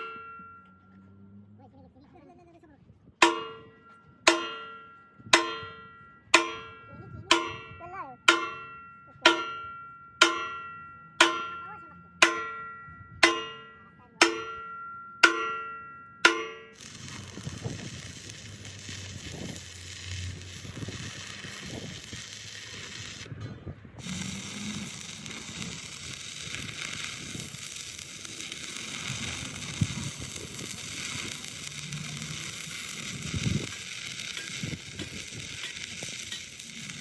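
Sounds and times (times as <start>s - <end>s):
hammer striking steel: 0.0s - 0.8s, 3.2s - 37.0s.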